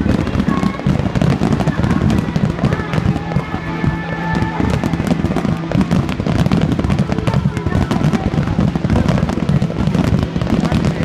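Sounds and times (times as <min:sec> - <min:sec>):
fireworks crackling and popping: 0:00.0 - 0:11.0
music: 0:00.0 - 0:11.0
voices: 0:00.0 - 0:11.0.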